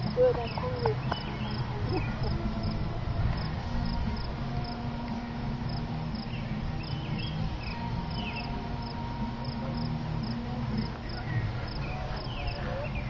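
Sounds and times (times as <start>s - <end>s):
insect chirping: 0.0s - 4.8s, 5.7s - 12.6s
steady low rumble: 0.0s - 13.0s.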